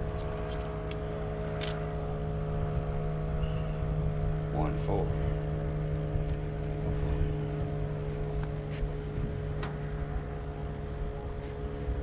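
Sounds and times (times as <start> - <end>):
boat motor humming: 0.0 - 12.0
low uneven rumble: 0.0 - 12.0.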